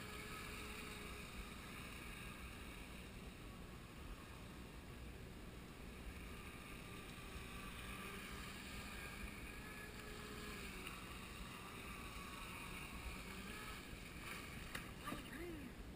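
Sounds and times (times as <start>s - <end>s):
background hiss: 0.0s - 15.9s
electric motor whine: 0.0s - 15.9s.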